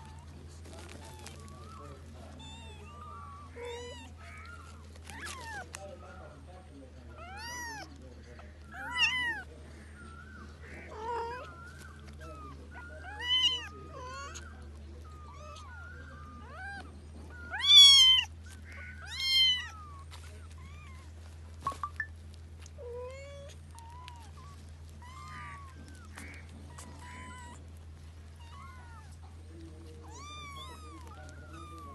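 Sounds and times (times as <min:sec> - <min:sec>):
cat and kittens meowing: 0:00.0 - 0:21.5, 0:22.2 - 0:31.9.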